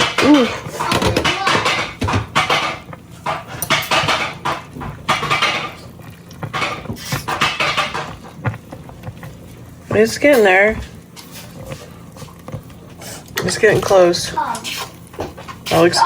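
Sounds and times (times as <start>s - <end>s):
utensil scraping slow cooker crock: 0.0s - 16.0s.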